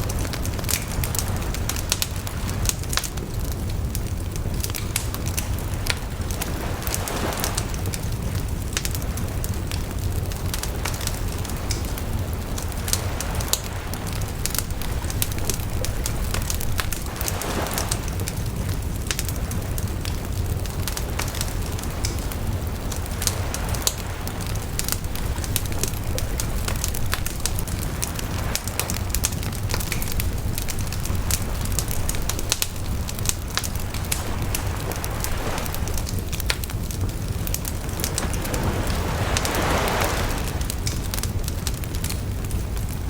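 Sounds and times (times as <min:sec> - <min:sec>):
bonfire crackling and popping: 0:00.0 - 0:43.0
fire rushing hiss: 0:00.0 - 0:43.0
low rumble of burning: 0:00.0 - 0:43.0.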